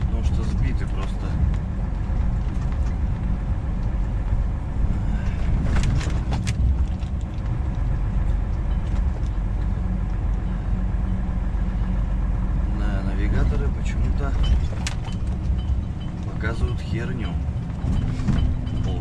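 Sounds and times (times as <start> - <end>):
truck diesel engine drone: 0.0 - 19.0.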